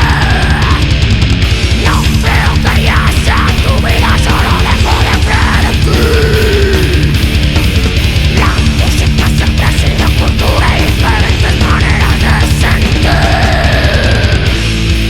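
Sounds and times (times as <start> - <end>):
metal band playing: 0.0 - 15.0.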